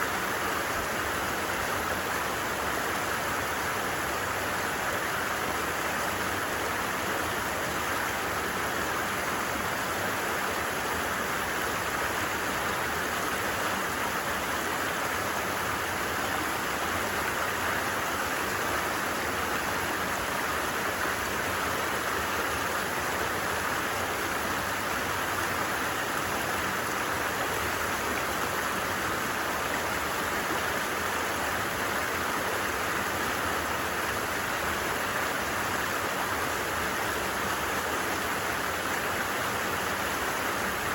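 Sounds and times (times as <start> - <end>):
creek flowing over stones: 0.0 - 40.9.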